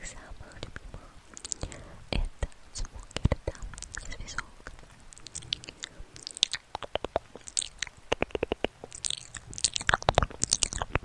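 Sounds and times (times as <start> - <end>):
clicks and crackles: 0.0 - 11.0.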